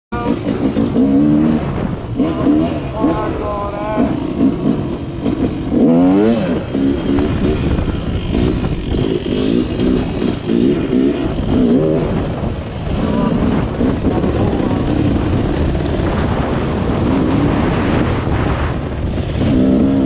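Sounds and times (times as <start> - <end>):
dirt bike engine revving: 0.2 - 20.0.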